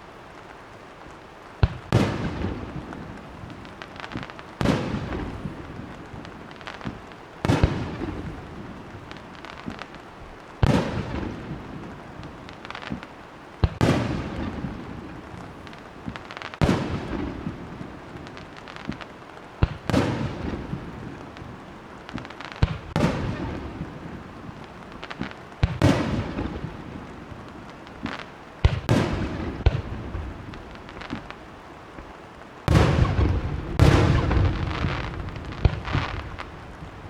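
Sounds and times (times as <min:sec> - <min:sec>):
fireworks bursting with bangs: 0:01.6 - 0:37.0.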